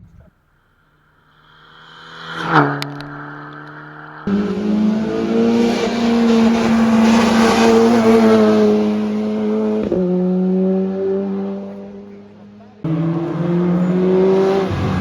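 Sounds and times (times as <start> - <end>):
tyre and road noise: 1.1 - 15.0
rally car engine at high revs: 1.8 - 15.0.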